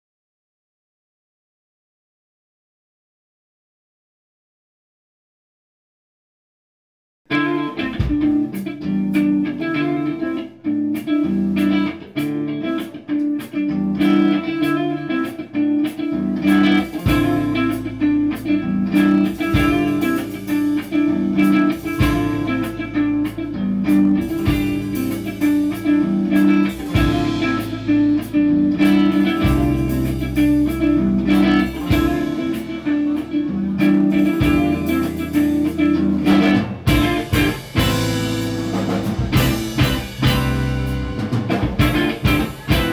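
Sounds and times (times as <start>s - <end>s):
bass guitar: 7.3s - 42.9s
electric guitar riff: 7.3s - 42.9s.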